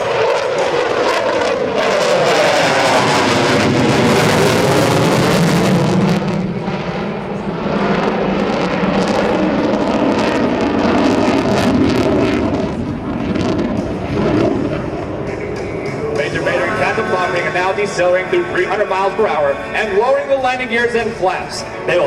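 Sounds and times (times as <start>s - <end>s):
jet engines passing over: 0.0s - 22.0s.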